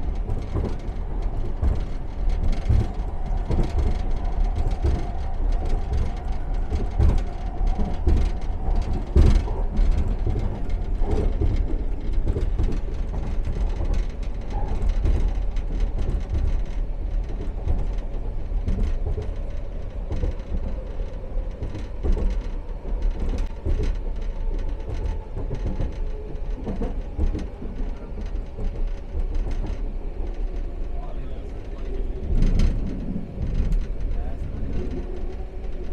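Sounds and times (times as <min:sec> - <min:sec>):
clicks and knocks of wheels: 0:00.0 - 0:35.9
train rumbling along track: 0:00.0 - 0:35.9.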